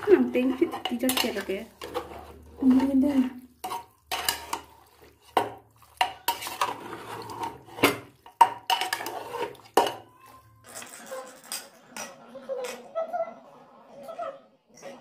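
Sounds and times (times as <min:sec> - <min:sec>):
metal spoon scraping metal pot: 0:00.0 - 0:12.2.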